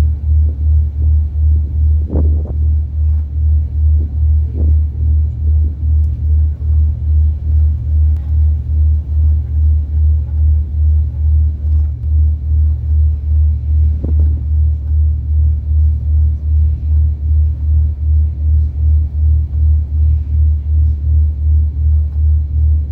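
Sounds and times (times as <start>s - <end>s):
ship engine throbbing: 0.0s - 22.9s.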